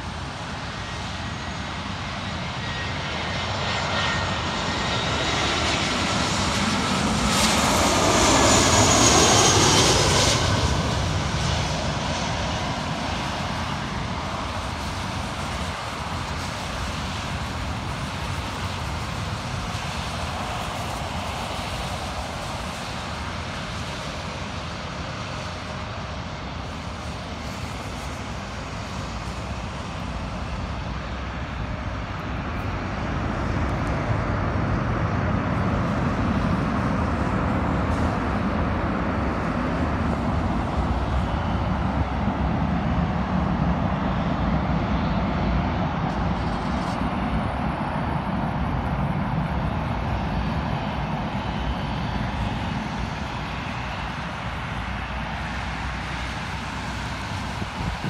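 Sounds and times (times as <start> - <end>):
distant jet airliner: 0.0 - 58.0.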